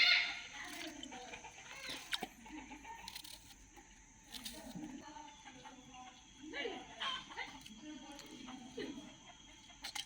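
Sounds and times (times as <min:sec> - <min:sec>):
chickens clucking: 0:00.0 - 0:04.0, 0:04.7 - 0:10.0.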